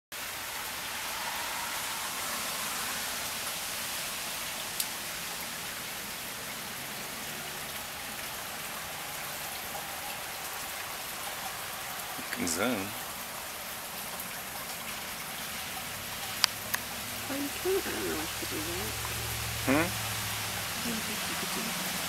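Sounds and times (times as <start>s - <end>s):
steady rain falling: 0.1s - 22.0s.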